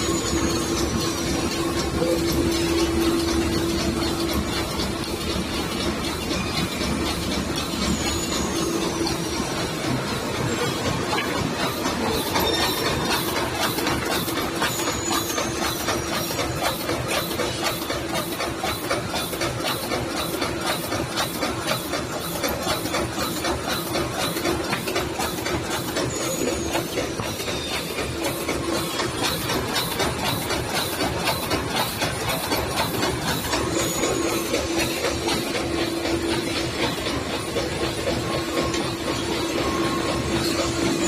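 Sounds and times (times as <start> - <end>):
sewing machine clatter: 0.0 - 41.0.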